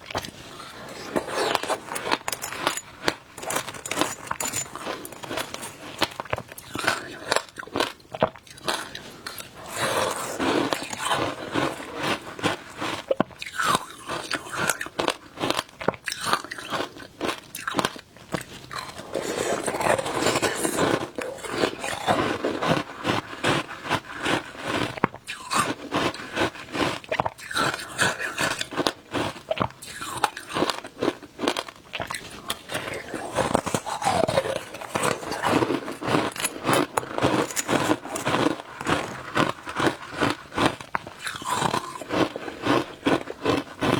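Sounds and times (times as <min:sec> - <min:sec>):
ice crunching while chewed: 0:00.0 - 0:43.9.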